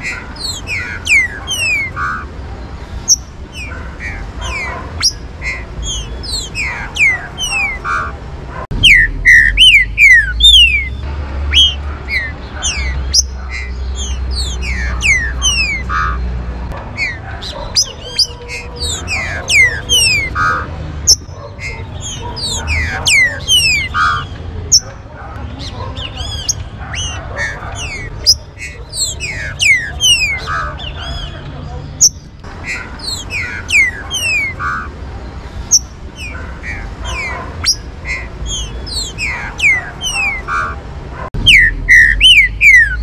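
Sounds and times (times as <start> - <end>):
birds whistling calls: 0.0 - 43.0.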